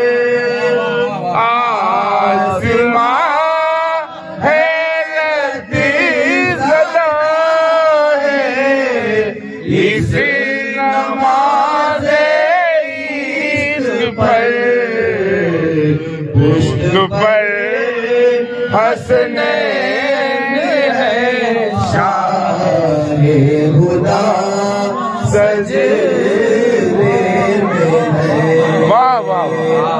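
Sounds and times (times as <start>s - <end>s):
man singing ornamented notes: 0.0s - 29.9s.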